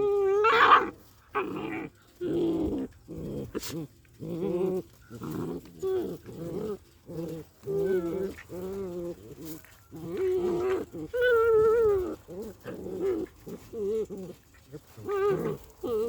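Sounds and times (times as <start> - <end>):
small dogs yelping in play: 0.0 - 16.0.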